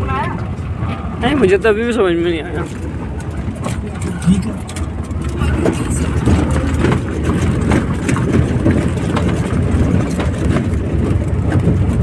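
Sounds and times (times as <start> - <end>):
vehicle engine and road rumble: 0.0 - 12.0
vehicle body rattling: 0.8 - 12.0.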